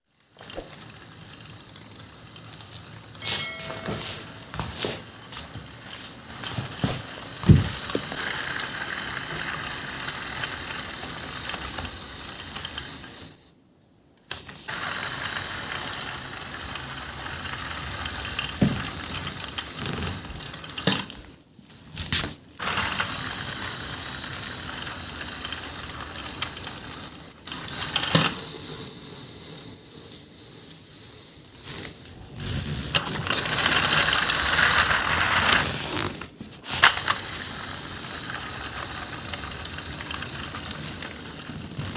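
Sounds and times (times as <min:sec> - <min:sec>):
toy train running: 0:00.2 - 0:13.3, 0:14.7 - 0:21.2, 0:22.6 - 0:41.9.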